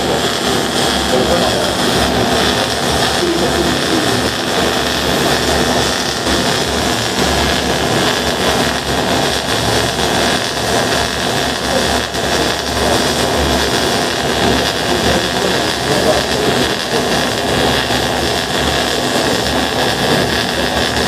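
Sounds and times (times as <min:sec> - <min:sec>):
arc welding hiss: 0:00.0 - 0:21.0.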